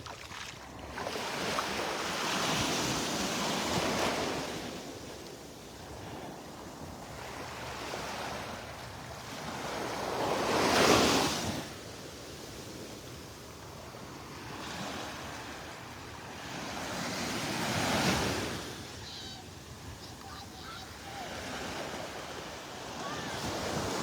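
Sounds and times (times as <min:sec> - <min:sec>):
small waves breaking on a beach: 0:00.0 - 0:24.0.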